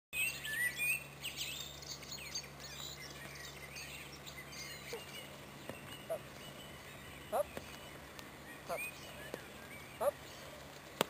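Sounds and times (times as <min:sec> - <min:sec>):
faint low hum: 0:00.2 - 0:11.0
songbirds chirping and singing: 0:00.2 - 0:11.0.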